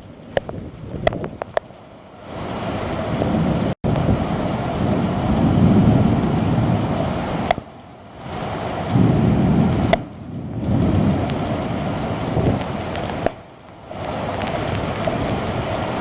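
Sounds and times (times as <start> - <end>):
heavy rain hissing: 0.7 - 16.0
thunder rumbling: 2.3 - 16.0.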